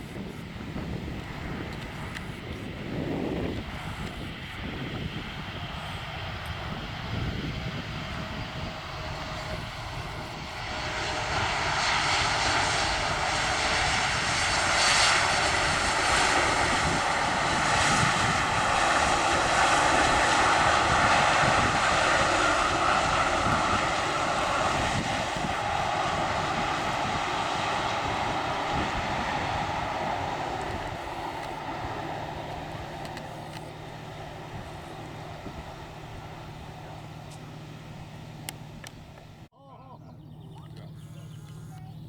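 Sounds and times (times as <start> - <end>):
jet engine whine: 0.0 - 39.5
jet engines rumbling: 0.0 - 42.0.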